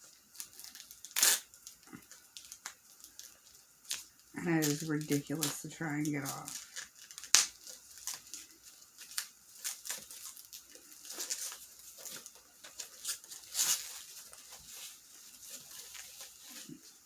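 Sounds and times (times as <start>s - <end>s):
plastic packing crinkling: 0.0s - 17.0s.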